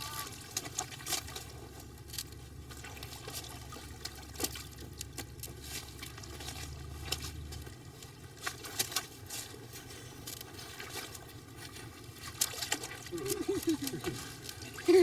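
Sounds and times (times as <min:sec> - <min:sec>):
low steady hum: 0:00.0 - 0:15.0
water trickling: 0:00.0 - 0:15.0.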